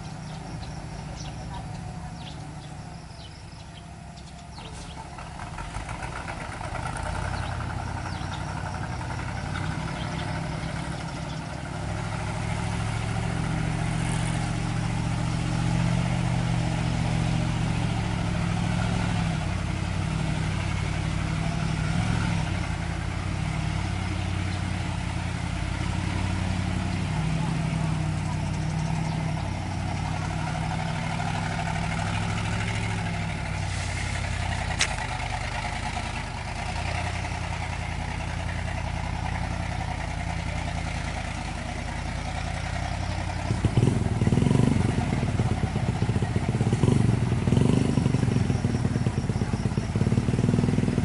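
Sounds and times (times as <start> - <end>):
diesel truck engines droning: 0.0 - 51.0.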